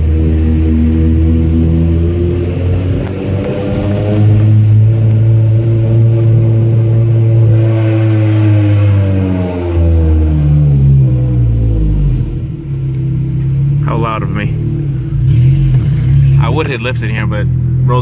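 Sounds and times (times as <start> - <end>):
loud car engine driving: 0.0 - 18.0.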